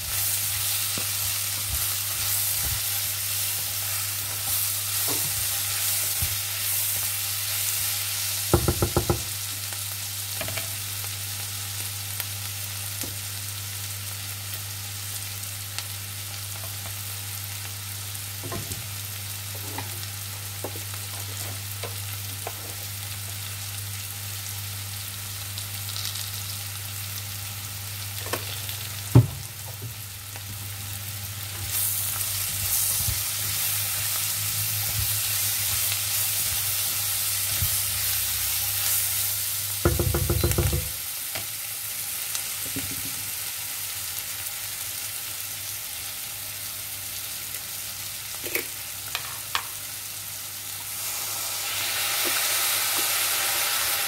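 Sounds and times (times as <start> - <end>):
vegetables sizzling in a wok: 0.0 - 54.0.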